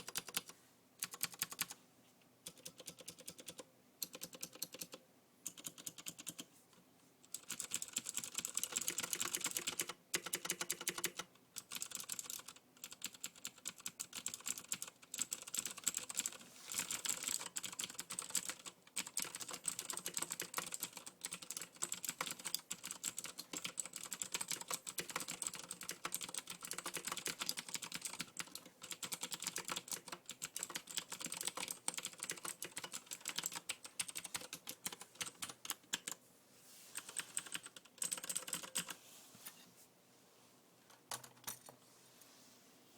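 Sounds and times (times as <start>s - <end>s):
typing on mechanical keyboard: 0.0s - 1.8s, 2.4s - 6.5s, 7.3s - 36.2s, 37.0s - 39.0s.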